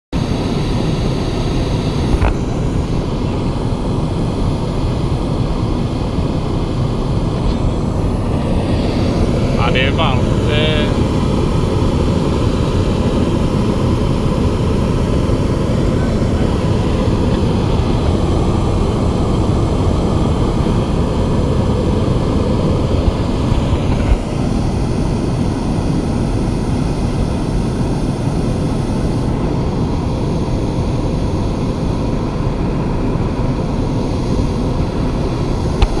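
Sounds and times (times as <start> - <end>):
propane burner roaring: 0.2 - 36.0.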